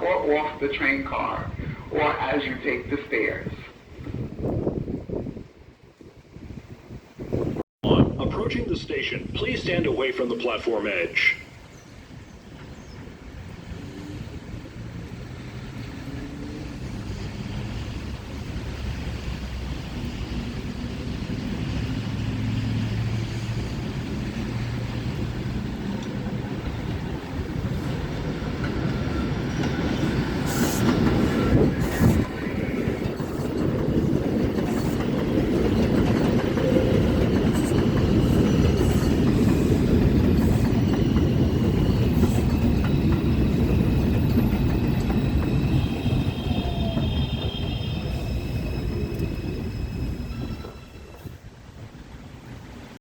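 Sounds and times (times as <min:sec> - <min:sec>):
train rumble and rail clatter: 0:00.0 - 0:53.0.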